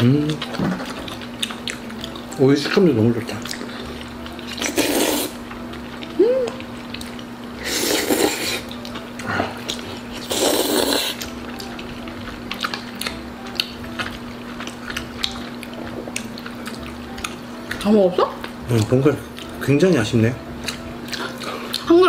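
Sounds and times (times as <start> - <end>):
chewing: 0.0 - 19.6, 20.6 - 21.9
steady low hum: 0.0 - 22.0.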